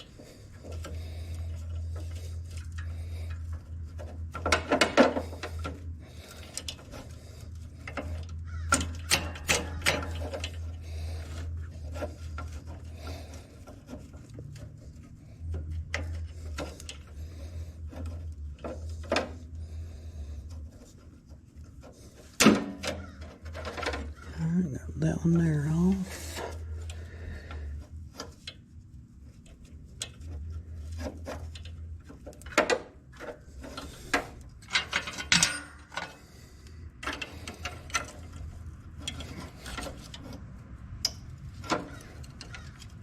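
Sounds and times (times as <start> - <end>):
steady low hum: 0.0 - 22.7, 23.3 - 41.7.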